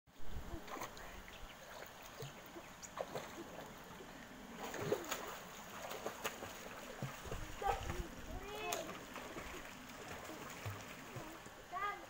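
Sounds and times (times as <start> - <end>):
pool water splashing: 0.3 - 12.0.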